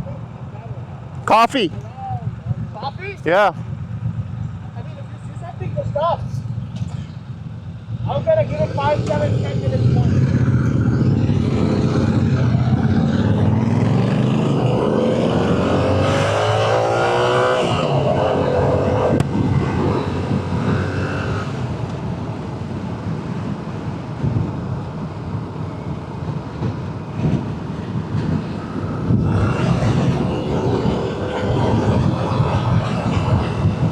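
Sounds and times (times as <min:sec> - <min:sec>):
wind noise on microphone: 0:01.6 - 0:33.9.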